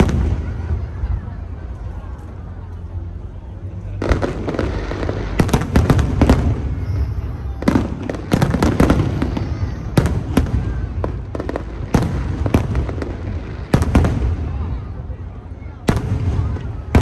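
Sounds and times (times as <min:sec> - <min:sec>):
fireworks bangs: 0:00.0 - 0:02.0, 0:03.8 - 0:17.0.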